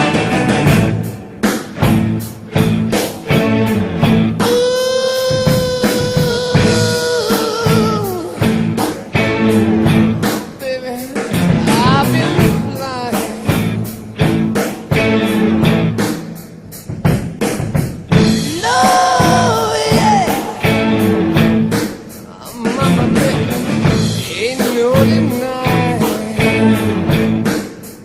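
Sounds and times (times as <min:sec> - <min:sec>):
bending lead guitar notes: 0:00.0 - 0:16.3, 0:18.1 - 0:27.6
bass: 0:00.0 - 0:28.0
drum beat: 0:00.0 - 0:28.0.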